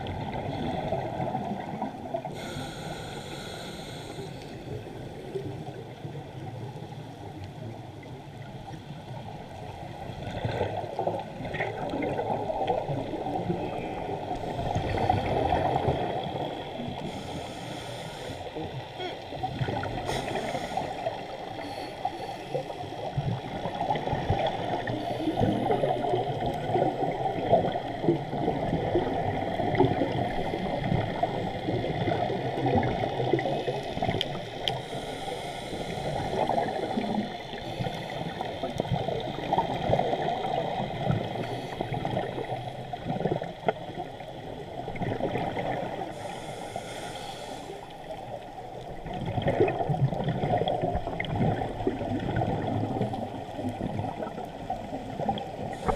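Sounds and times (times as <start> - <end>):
gurgling bubbles: 0.0 - 2.6, 7.6 - 46.4, 48.0 - 55.9
muffled underwater rushing: 0.0 - 55.9.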